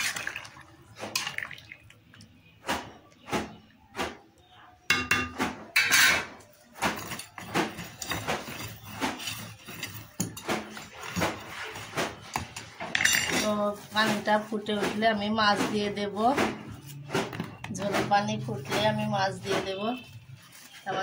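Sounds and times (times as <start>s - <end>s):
metal pots and utensils clinking: 0.0s - 2.2s, 4.9s - 21.0s.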